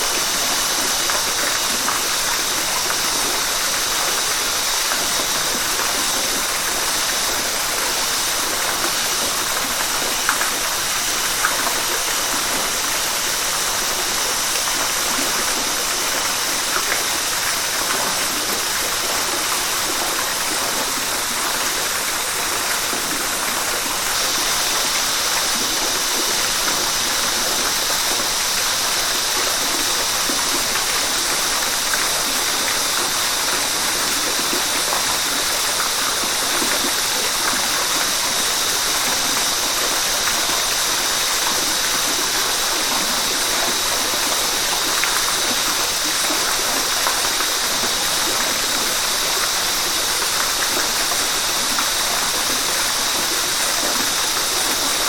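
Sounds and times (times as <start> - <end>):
steady high hiss: 0.0 - 55.0
waterfall rushing: 0.0 - 55.0.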